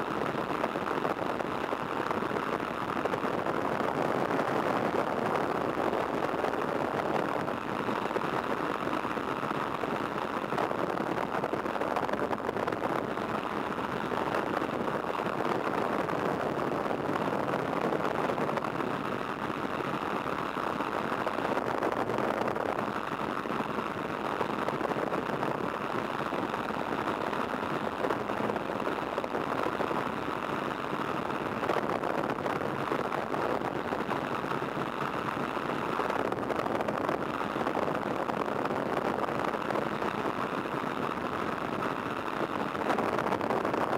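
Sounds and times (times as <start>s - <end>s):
biplane engine running steadily: 0.0s - 43.9s.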